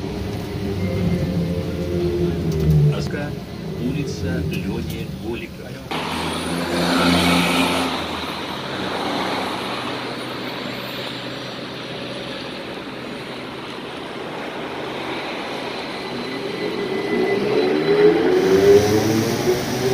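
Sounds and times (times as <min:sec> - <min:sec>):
traffic noise: 0:00.0 - 0:19.9
trolleybus drive whine: 0:00.0 - 0:19.9.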